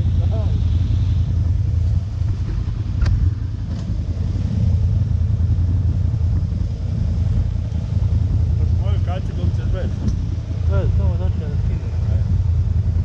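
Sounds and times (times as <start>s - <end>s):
atv engine rumbling: 0.0s - 13.0s.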